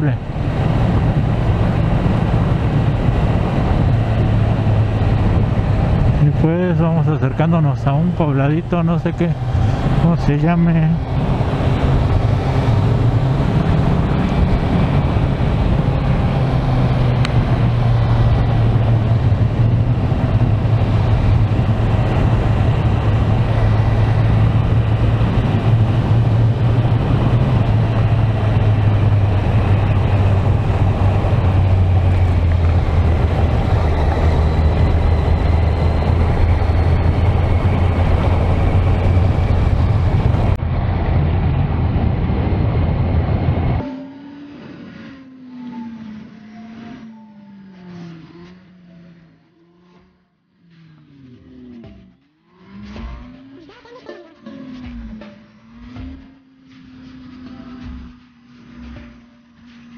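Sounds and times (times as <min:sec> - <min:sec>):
motorcycle engine running: 0:00.0 - 0:41.6, 0:43.8 - 0:59.9
wind and road noise: 0:00.0 - 0:59.9.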